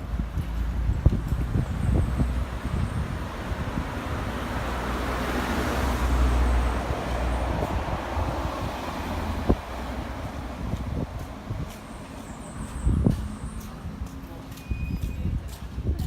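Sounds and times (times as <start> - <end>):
vehicle passing: 0.0 - 14.6.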